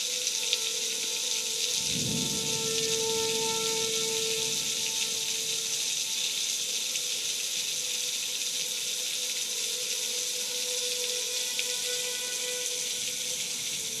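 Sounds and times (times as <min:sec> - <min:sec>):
faint warning siren: 0:00.0 - 0:14.0
heavy rain pouring: 0:00.0 - 0:14.0.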